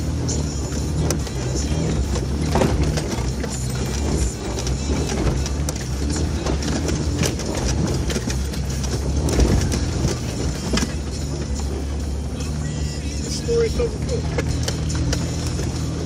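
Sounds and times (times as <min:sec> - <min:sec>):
low engine note: 0:00.0 - 0:16.0
knocks and rattles over rocks: 0:00.5 - 0:12.7, 0:14.0 - 0:16.0.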